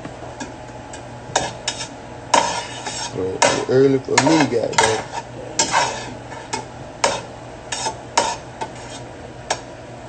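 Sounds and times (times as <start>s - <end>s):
utensil scraping cookware: 1.3s - 9.6s.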